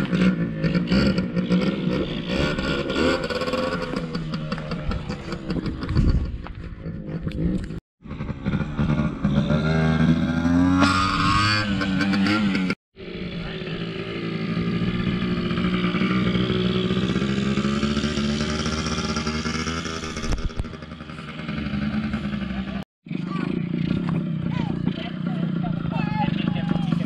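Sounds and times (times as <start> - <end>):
small motorcycle engine running: 0.0 - 27.0.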